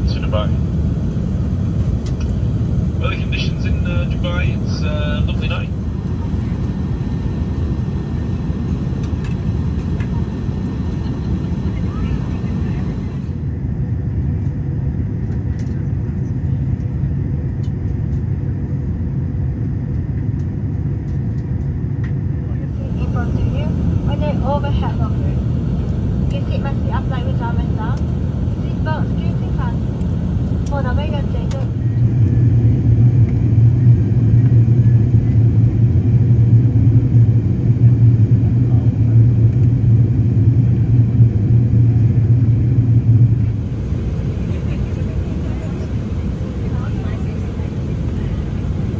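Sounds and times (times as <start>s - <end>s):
airplane cabin engine rumble: 0.0s - 14.0s, 15.2s - 48.9s.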